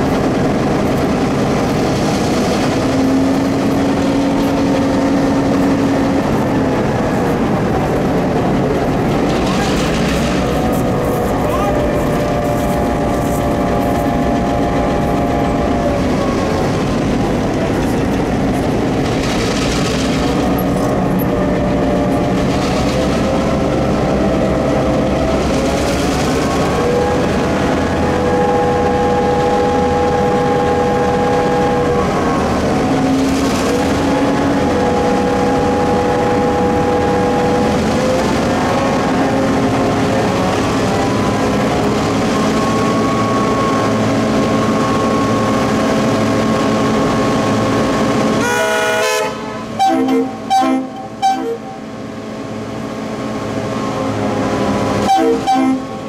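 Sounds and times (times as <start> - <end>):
locomotive engine running: 0.0 - 56.0.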